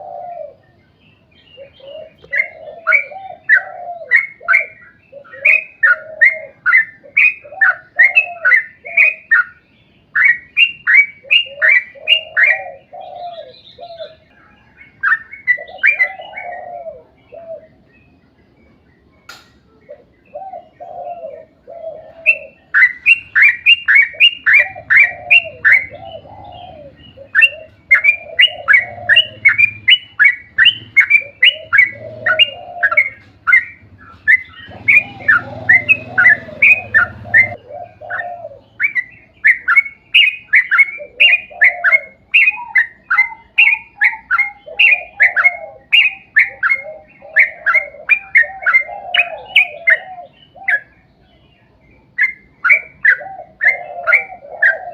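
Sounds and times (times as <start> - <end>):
bird singing rapid falling chirps: 0.0 - 54.9
low bird warbling: 0.0 - 54.9.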